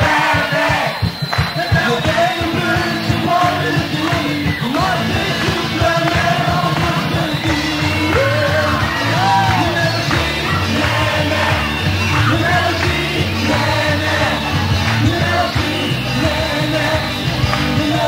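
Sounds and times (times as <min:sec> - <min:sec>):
lead vocal singing: 0:00.0 - 0:18.0
rock band playing live: 0:00.0 - 0:18.0.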